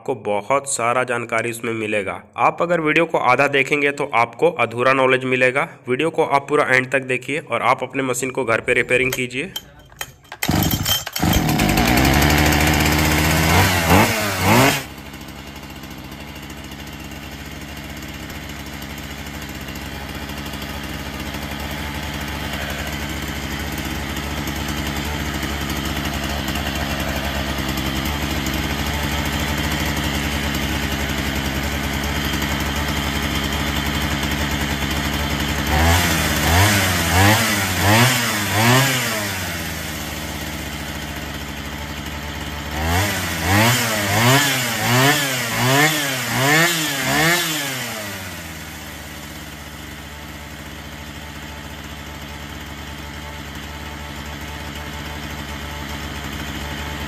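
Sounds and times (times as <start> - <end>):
chainsaw idling and revving: 5.4 - 57.0.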